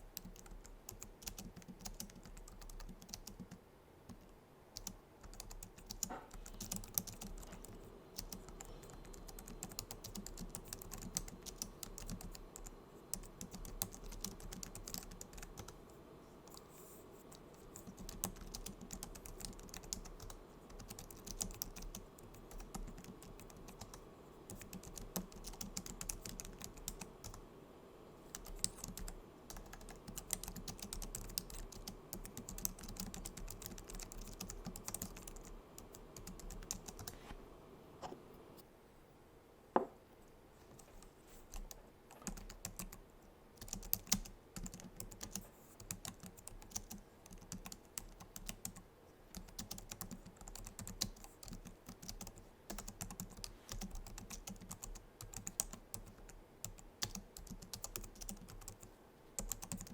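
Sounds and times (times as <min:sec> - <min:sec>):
keyboard keys clicking: 0:00.2 - 0:04.2, 0:04.8 - 0:15.8, 0:17.3 - 0:27.4, 0:28.3 - 0:37.2, 0:43.6 - 0:48.8, 0:49.4 - 0:59.9.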